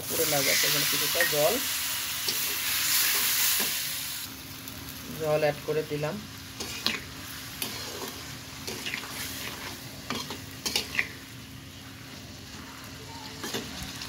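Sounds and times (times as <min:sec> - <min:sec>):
frying sizzle: 0:00.0 - 0:14.0.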